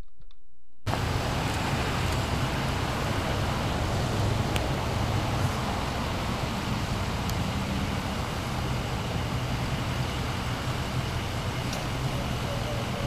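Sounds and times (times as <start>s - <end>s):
outdoor rumble and hiss: 0.9s - 13.0s.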